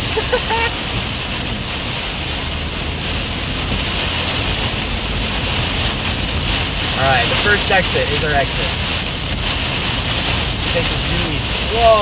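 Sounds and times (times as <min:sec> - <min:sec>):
heavy rain on car windshield: 0:00.0 - 0:12.0
tyre spray and road noise: 0:00.0 - 0:12.0.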